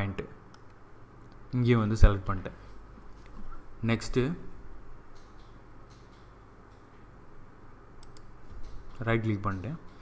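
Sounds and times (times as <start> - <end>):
low mains hum: 0.0 - 10.0.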